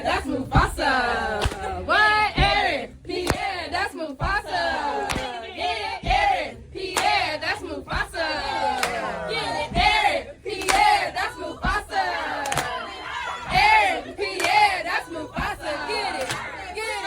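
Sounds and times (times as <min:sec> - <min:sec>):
crowd chanting in unison: 0:00.0 - 0:17.0.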